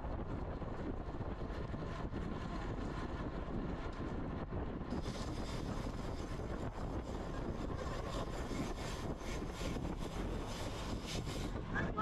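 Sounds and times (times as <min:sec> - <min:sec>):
road rumble: 0:00.0 - 0:12.0
wind rush: 0:00.0 - 0:12.0.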